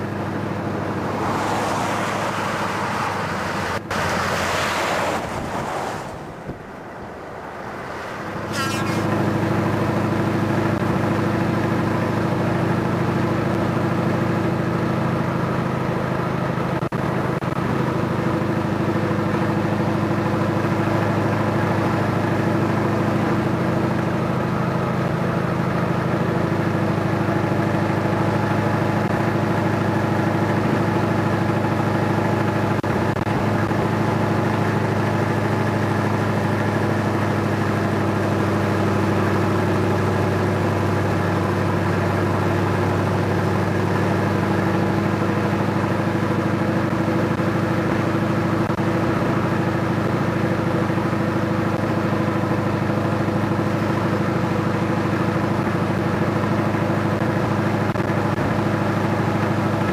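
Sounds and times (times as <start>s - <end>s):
truck diesel engine droning: 0.0s - 59.9s.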